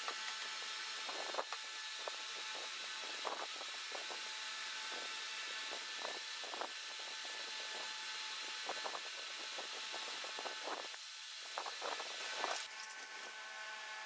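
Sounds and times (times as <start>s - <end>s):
power tool running: 0.0s - 14.0s.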